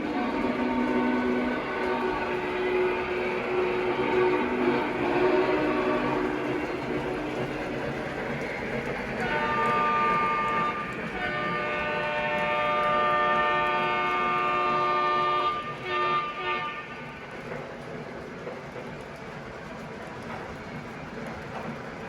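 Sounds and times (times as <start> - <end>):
model locomotive running: 0.0 - 22.0.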